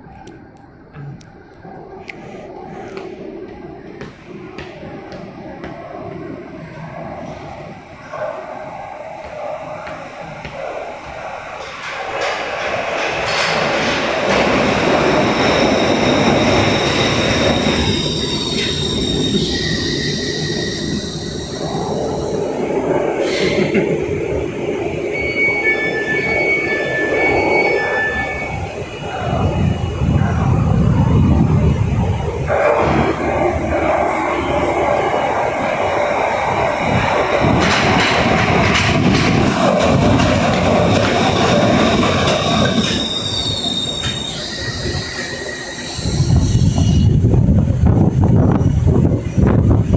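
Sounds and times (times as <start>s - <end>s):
train rumble: 0.0s - 49.9s
train wheel squeal: 2.2s - 49.9s.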